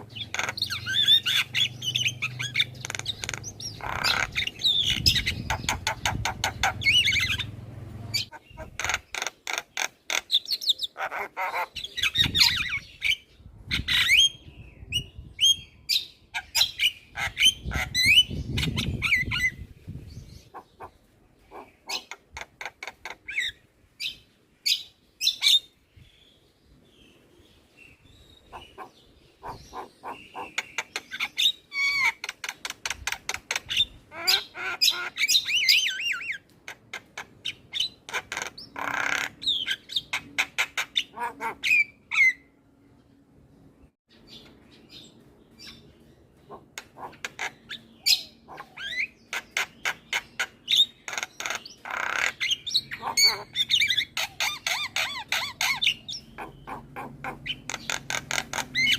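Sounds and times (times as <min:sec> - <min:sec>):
myna bird chattering: 0:00.0 - 0:25.7, 0:28.4 - 0:42.5, 0:44.2 - 0:58.9.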